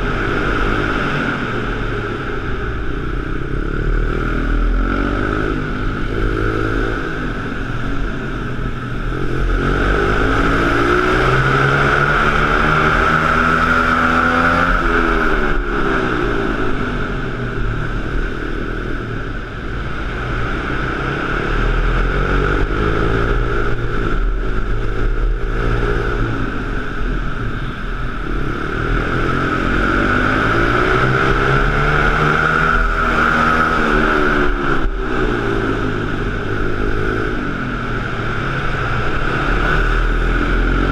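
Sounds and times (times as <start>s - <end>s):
pit bike engines revving: 0.0s - 40.9s
steady high whine: 0.0s - 40.9s.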